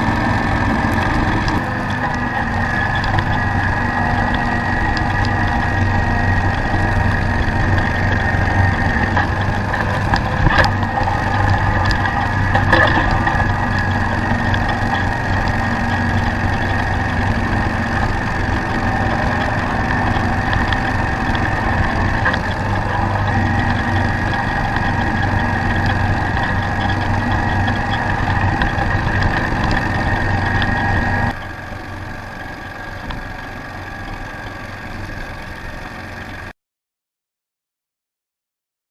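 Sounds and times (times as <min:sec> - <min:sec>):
high whine: 0:00.0 - 0:36.5
lawn tractor engine running: 0:00.0 - 0:36.5.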